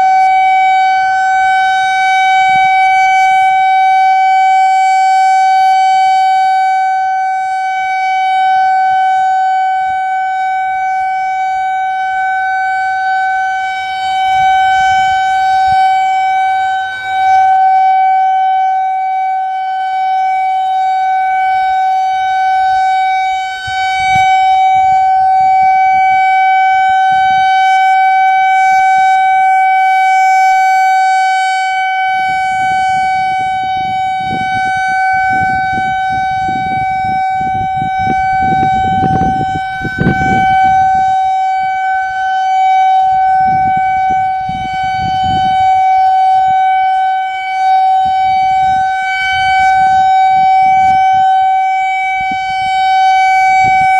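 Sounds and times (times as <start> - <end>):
tornado siren steady tone: 0.0 - 53.9.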